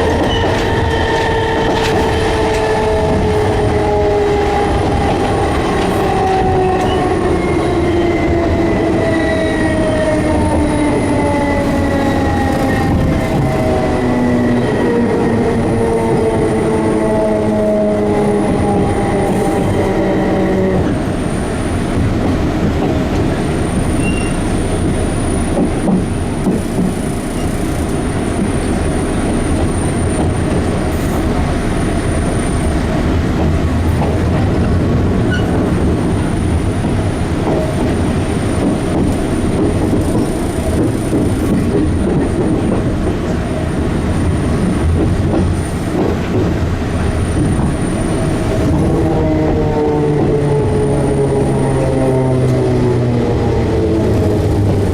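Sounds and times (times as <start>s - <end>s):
train wheels rumbling on track: 0.0s - 54.9s.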